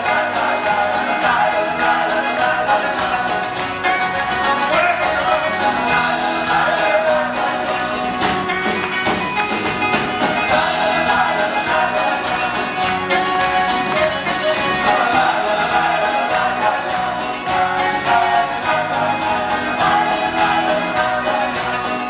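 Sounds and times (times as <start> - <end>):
folk-rock band playing live: 0.0 - 22.0
voices singing: 0.0 - 22.0.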